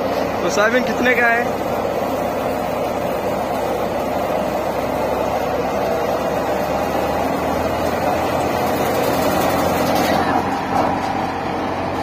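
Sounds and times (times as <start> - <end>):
thresher mechanical drone: 0.0 - 12.0.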